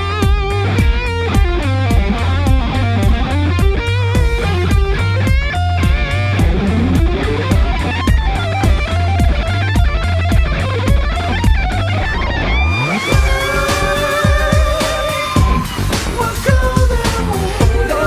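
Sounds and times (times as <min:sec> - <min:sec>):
electric guitar backing track: 0:00.0 - 0:18.0.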